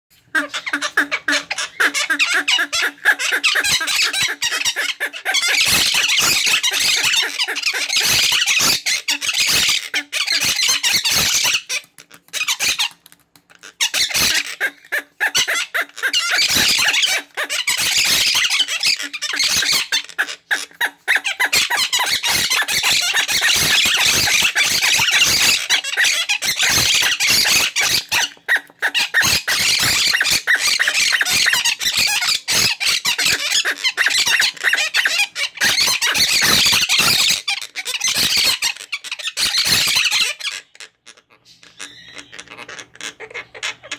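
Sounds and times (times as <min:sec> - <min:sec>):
parakeets screeching and chattering: 0:00.1 - 0:43.9.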